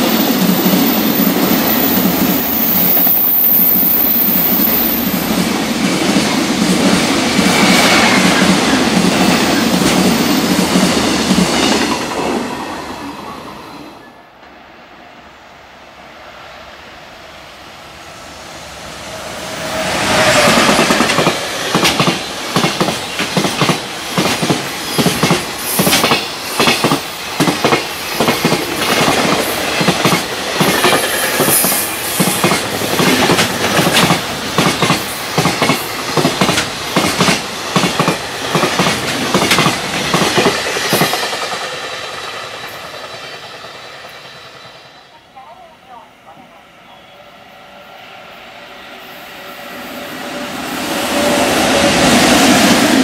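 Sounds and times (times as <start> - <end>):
freight train rumble: 0.0 - 46.9, 47.7 - 53.0.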